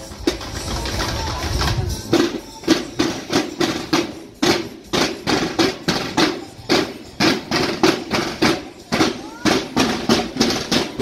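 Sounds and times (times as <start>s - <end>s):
marching drums beating: 0.0s - 11.0s.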